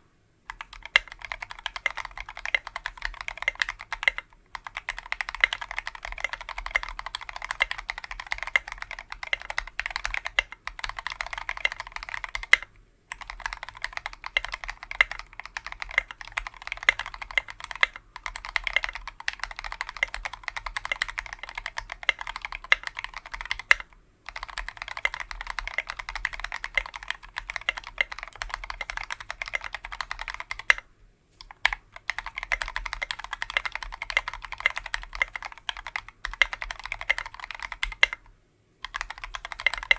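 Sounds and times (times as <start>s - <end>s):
fast mechanical keyboard typing: 0.5s - 39.9s.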